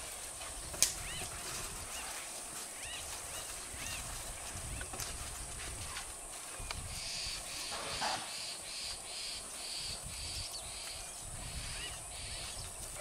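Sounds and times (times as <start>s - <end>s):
high-pitched insect hiss: 0.0s - 13.0s.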